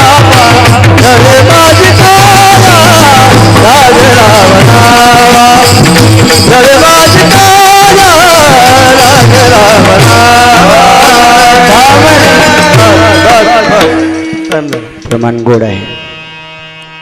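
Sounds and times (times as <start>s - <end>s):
person singing devotional melody: 0.0s - 15.1s
sustained accompaniment: 0.0s - 17.0s.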